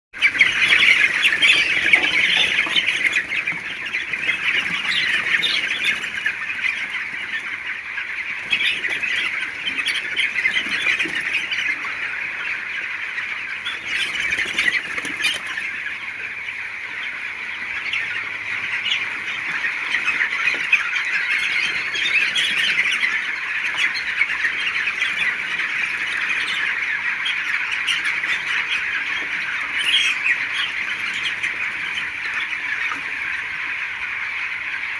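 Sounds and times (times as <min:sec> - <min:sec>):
flock of birds squawking: 0:00.2 - 0:34.9.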